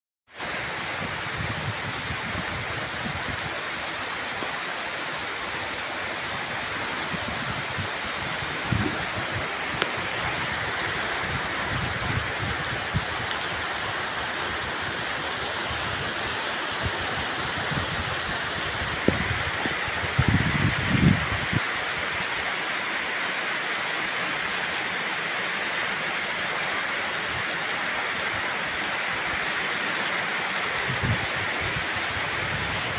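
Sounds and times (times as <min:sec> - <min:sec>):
heavy rain falling: 0:00.3 - 0:32.9
rushing flood stream: 0:00.3 - 0:32.9.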